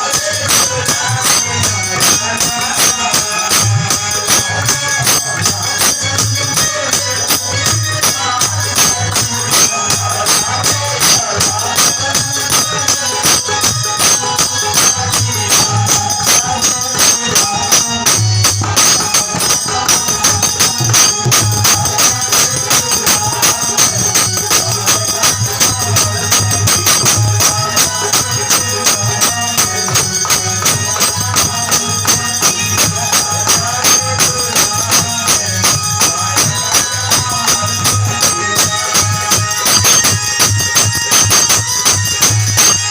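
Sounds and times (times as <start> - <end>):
jingling tambourine-like percussion: 0.0 - 42.9.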